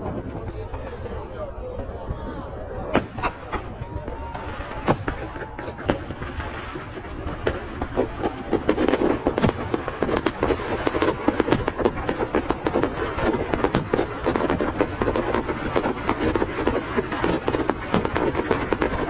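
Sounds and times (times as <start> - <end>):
fireworks cracking and popping: 2.7 - 19.0.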